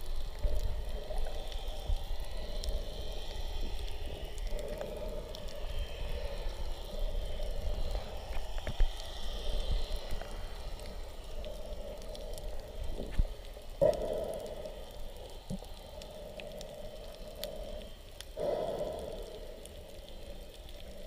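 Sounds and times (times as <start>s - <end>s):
faint clicks: 0.0s - 21.0s
hiss: 0.0s - 21.0s
muffled underwater rumble: 0.0s - 21.0s.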